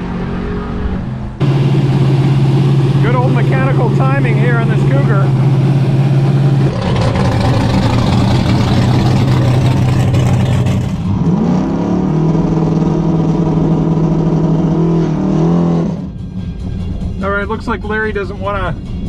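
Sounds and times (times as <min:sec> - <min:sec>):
car engine revving: 0:00.0 - 0:18.3.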